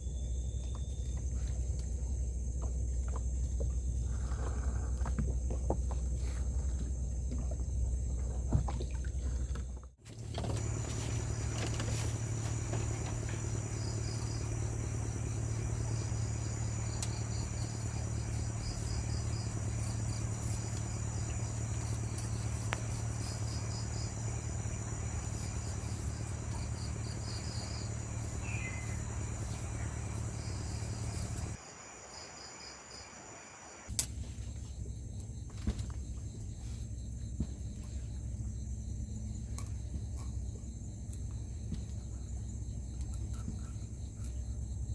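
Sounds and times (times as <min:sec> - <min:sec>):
insects trilling: 0:00.0 - 0:44.9
steady low hum: 0:00.0 - 0:44.9.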